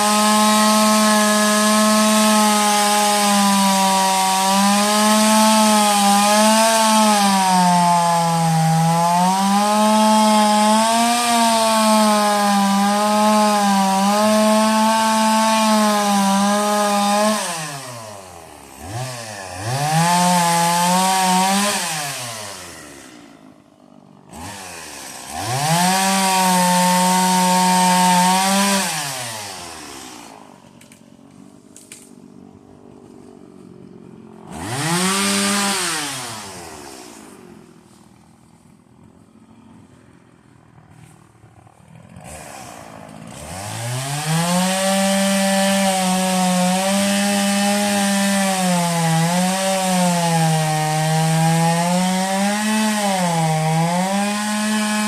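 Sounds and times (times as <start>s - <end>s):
chainsaw cutting wood: 0.0s - 55.0s
chainsaw idling and revving: 0.0s - 55.0s.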